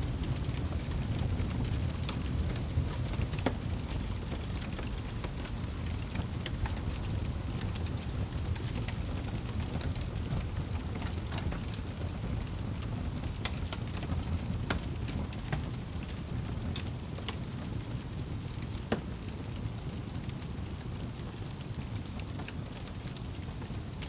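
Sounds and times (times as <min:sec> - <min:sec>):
fire crackling and popping: 0:00.0 - 0:24.0
flames rumbling: 0:00.0 - 0:24.0.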